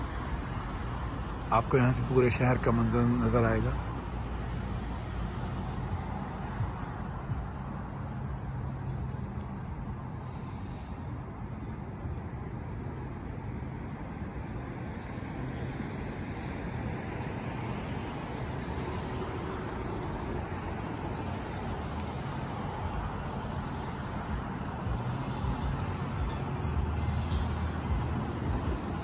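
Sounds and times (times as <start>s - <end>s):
distant city traffic hum: 0.0s - 29.0s.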